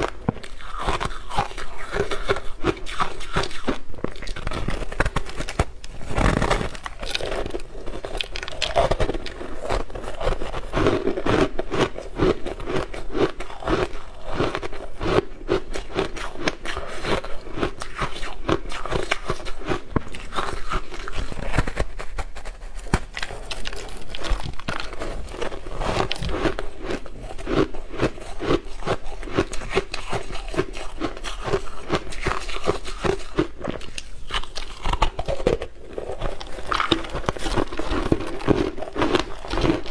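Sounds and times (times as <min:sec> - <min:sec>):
person chewing crunchy ice: 0:00.0 - 0:39.9.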